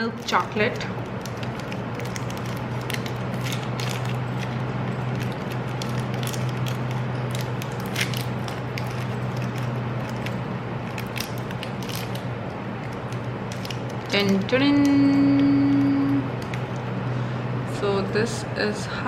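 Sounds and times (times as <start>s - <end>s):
steady low hum: 0.0s - 19.0s
plastic wrapper crinkling: 0.1s - 16.9s.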